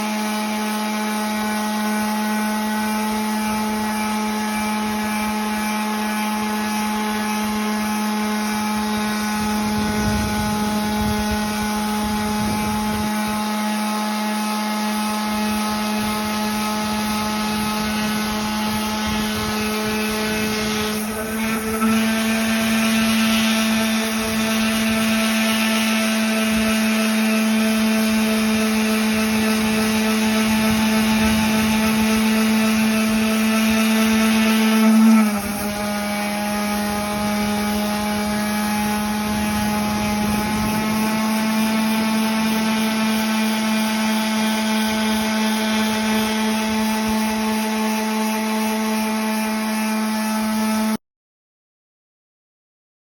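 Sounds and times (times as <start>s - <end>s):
power sander on wood: 0.0s - 51.0s.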